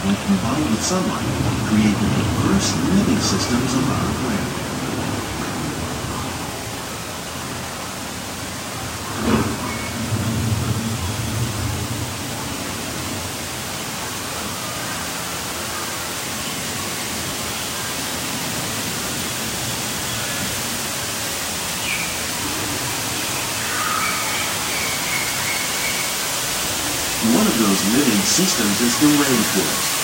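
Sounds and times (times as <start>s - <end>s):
falling water hiss: 0.0s - 30.0s.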